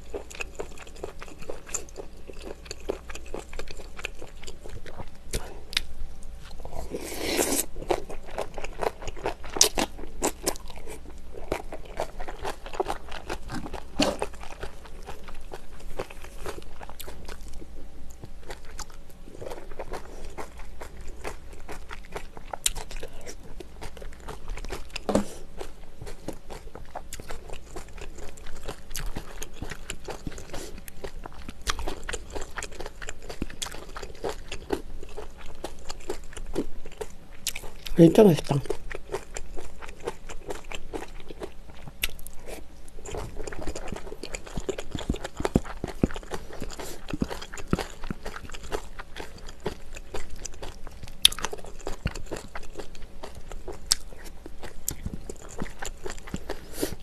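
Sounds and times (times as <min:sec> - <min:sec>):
person chewing and crunching food: 0:00.0 - 0:57.0.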